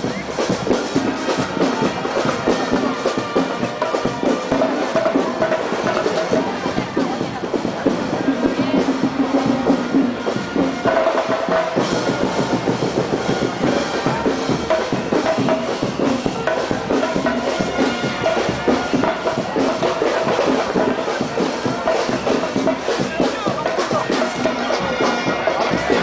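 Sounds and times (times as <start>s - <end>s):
snare and bass drums playing: 0.0s - 26.0s.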